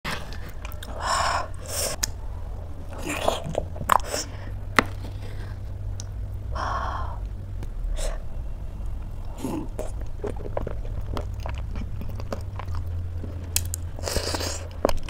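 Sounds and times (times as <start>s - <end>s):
chewing and wet mouth sounds: 0.1s - 6.4s, 7.2s - 15.0s
low steady hum: 0.1s - 15.0s.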